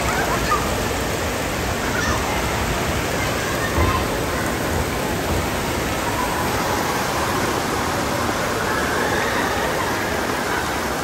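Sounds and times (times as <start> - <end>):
water rushing down a slide: 0.0 - 11.0.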